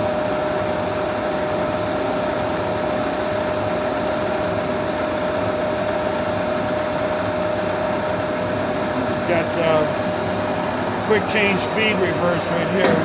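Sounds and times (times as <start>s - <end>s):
lathe whine and hum: 0.0s - 13.0s.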